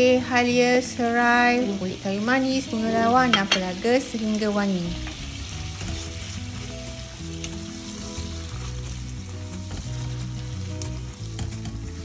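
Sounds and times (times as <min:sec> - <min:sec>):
food sizzling in butter: 0:00.0 - 0:12.0
soft background music: 0:00.0 - 0:12.0.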